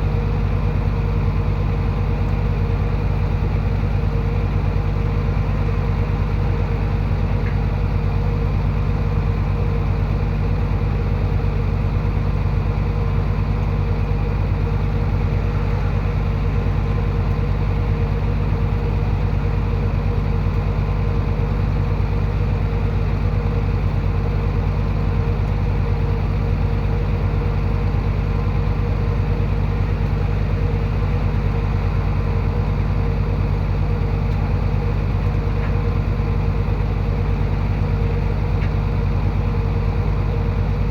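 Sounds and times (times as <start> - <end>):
diesel engine low rumble: 0.0 - 40.9.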